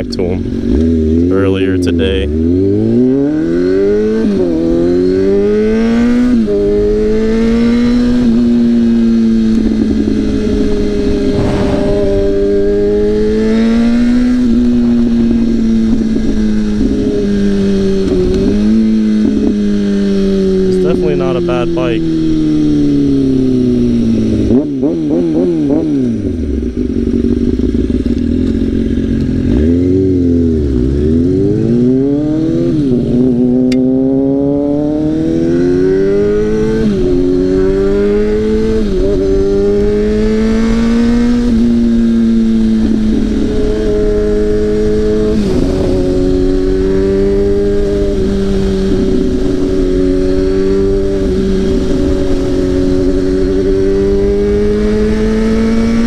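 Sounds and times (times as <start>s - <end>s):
motorcycle engine shifting gears: 0.0s - 1.4s, 2.3s - 56.0s.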